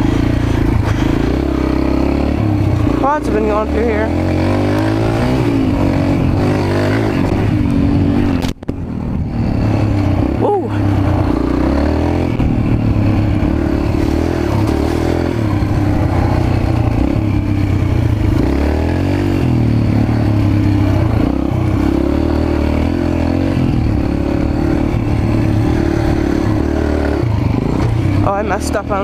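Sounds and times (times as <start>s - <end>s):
bike rattling: 0.0s - 29.0s
dirt bike engine revving: 0.0s - 29.0s.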